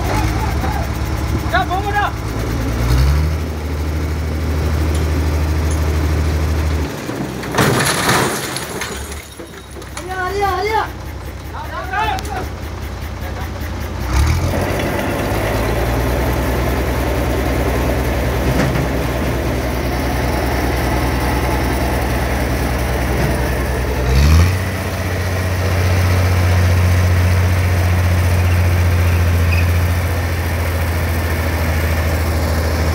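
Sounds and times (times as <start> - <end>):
truck engine running: 0.0 - 32.9.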